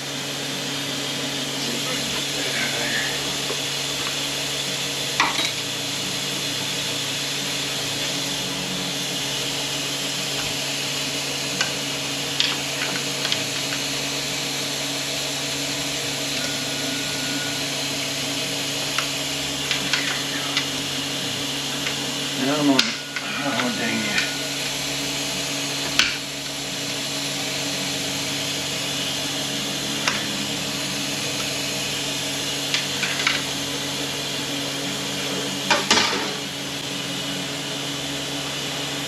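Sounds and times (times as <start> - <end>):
shop machinery humming: 0.0 - 39.0.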